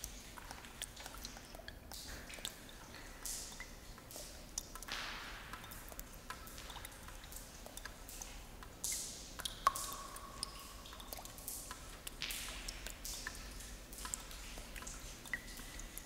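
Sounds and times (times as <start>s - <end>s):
drips: 0.0s - 16.0s.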